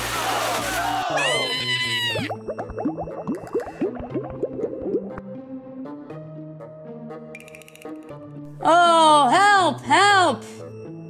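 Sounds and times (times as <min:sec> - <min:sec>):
light background music: 0:00.3 - 0:11.0.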